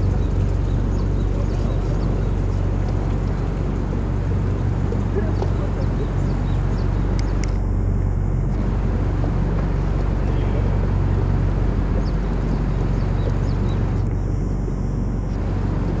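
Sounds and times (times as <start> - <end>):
rush of water and air: 0.0 - 14.3
boat engine droning: 0.0 - 16.0.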